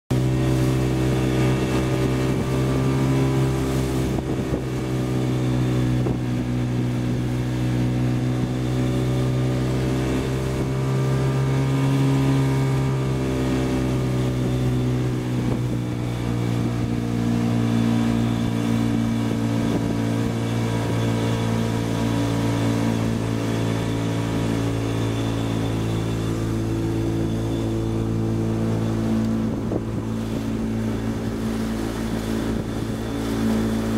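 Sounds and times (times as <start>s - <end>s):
engine running steadily: 0.1s - 33.9s.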